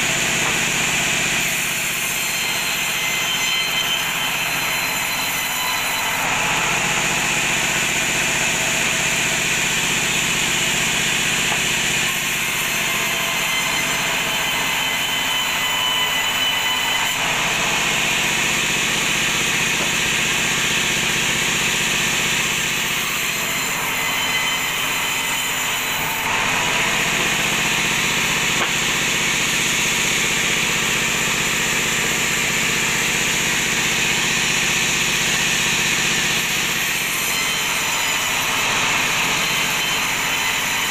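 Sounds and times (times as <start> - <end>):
bandsaw cutting wood: 0.0 - 40.9.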